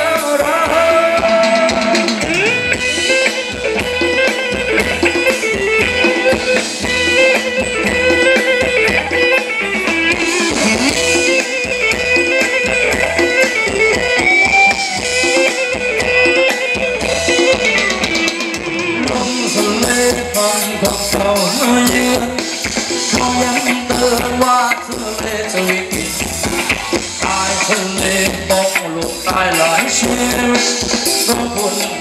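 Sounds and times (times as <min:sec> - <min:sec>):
drum kit beat: 0:00.0 - 0:32.0
guitar melody: 0:00.0 - 0:32.0.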